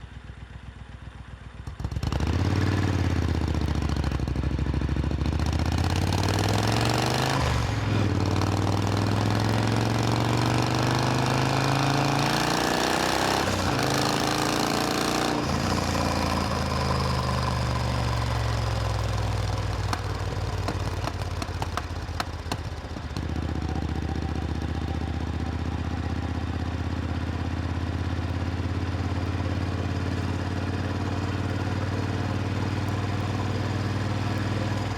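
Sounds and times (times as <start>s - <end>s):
motorcycle engine revving: 1.8s - 34.9s.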